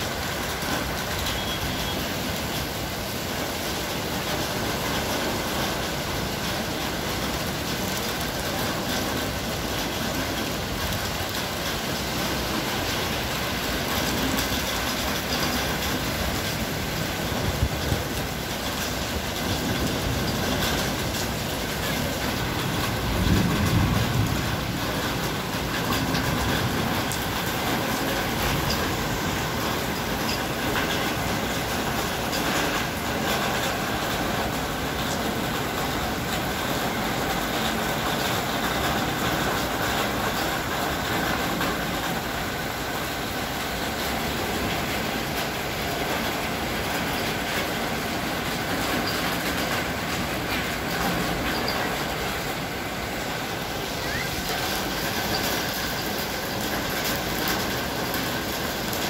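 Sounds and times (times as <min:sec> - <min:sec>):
heavy rain pouring on street: 0:00.0 - 0:59.0.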